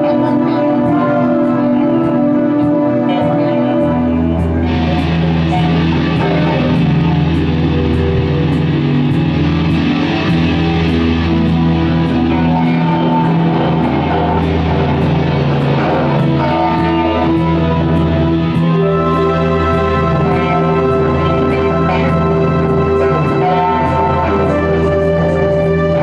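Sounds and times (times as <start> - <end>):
guitar chords: 0.0 - 26.0.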